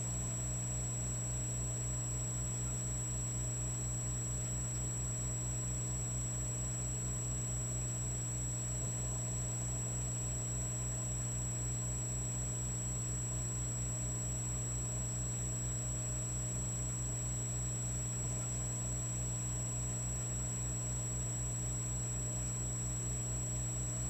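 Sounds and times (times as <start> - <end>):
electric fireplace humming: 0.0 - 24.0.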